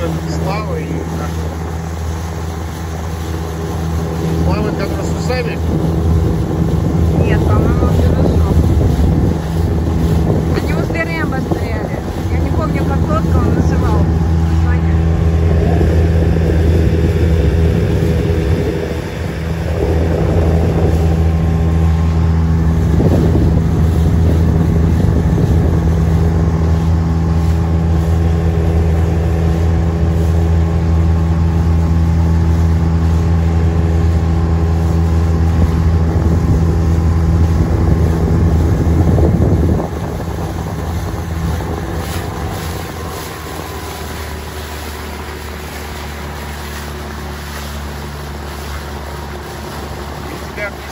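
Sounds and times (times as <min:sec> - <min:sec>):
outboard motor running: 0:00.0 - 0:50.9
water rushing: 0:00.0 - 0:50.9
wind: 0:00.0 - 0:50.9.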